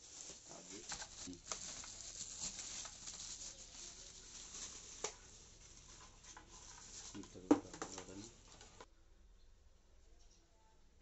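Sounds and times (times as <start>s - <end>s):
packaging rustling: 0.0s - 8.9s.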